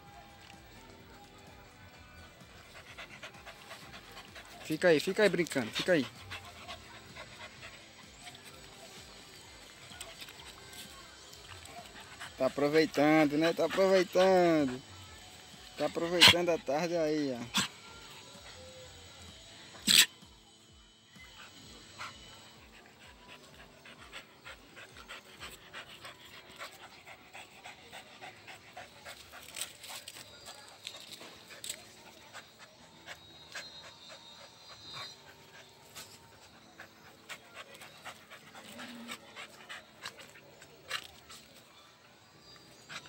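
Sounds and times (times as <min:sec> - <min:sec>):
dogs panting: 0:00.4 - 0:43.0.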